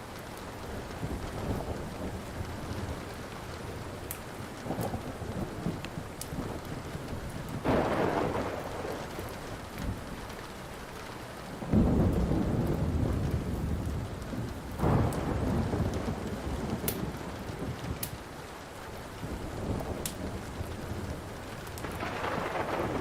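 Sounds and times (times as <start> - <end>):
steady rain: 0.0 - 23.0
wood fire crackling: 0.0 - 23.0
thunder rolling: 0.9 - 10.4, 11.6 - 18.1, 19.3 - 23.0.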